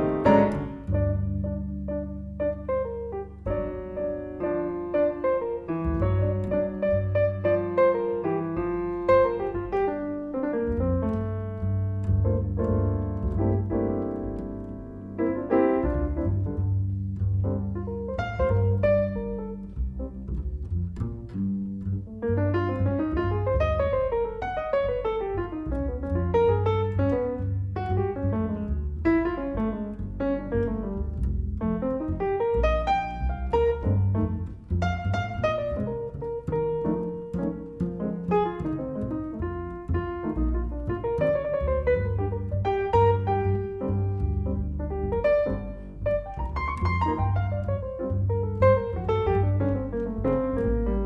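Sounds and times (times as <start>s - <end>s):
piano music: 0.0s - 51.0s.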